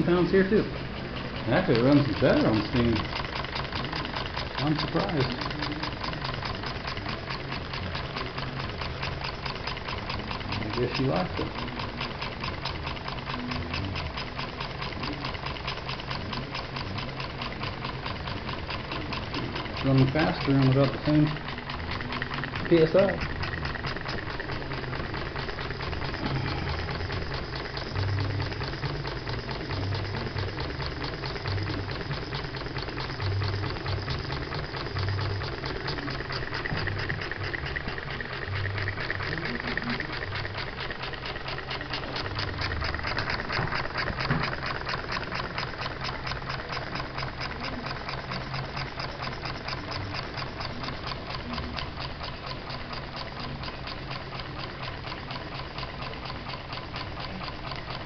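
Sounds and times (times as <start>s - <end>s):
model steam engine clicking: 0.0s - 58.0s.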